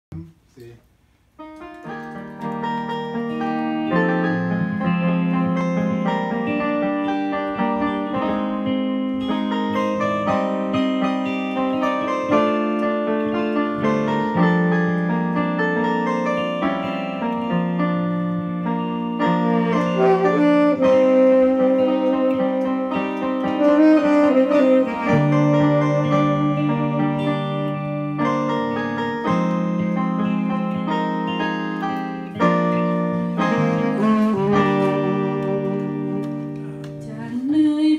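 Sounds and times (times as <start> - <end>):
keyboard chords: 0.9 - 37.9
melody with vibrato: 2.4 - 36.6.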